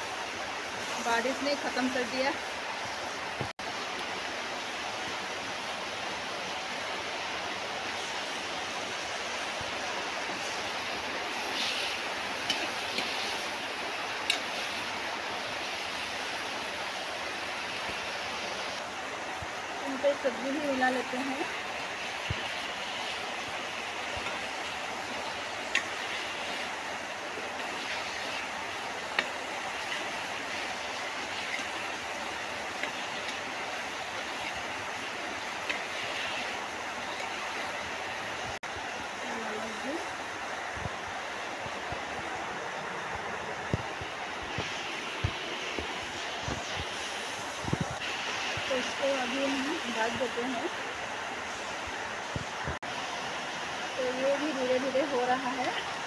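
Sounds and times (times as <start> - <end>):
heavy rain: 0.0 - 56.0
steady hiss: 0.0 - 56.0.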